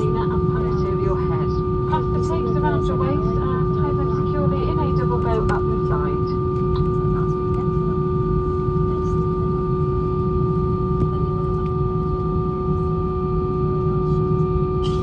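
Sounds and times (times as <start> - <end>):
airplane cabin rumble: 0.0 - 15.0
steady whining tones: 0.0 - 15.0.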